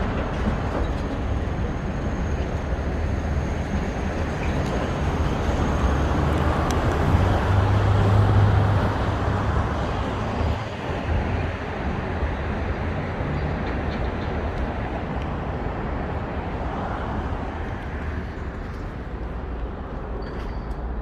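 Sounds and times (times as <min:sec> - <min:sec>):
subway train rumbling on track: 0:00.0 - 0:21.0.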